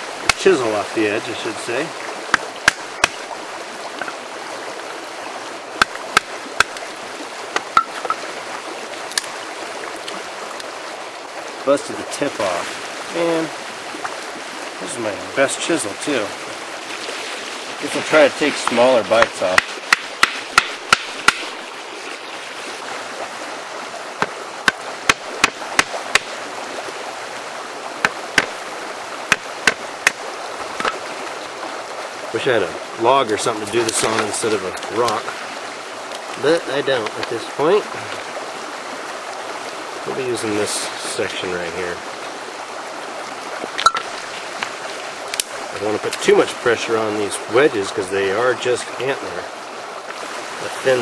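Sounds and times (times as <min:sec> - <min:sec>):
rushing creek water: 0:00.0 - 0:51.0.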